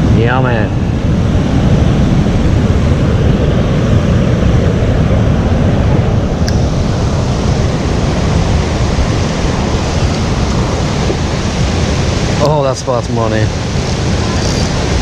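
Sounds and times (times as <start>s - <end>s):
river water rushing over rocks: 0.0s - 15.0s
wind buffeting microphone: 0.0s - 15.0s.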